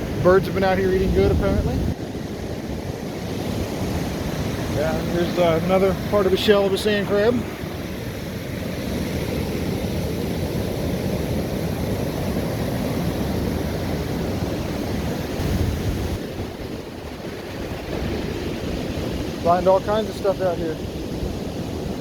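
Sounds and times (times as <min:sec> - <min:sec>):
ocean surf washing on beach: 0:00.0 - 0:22.0
wind rumbling on microphone: 0:00.0 - 0:22.0.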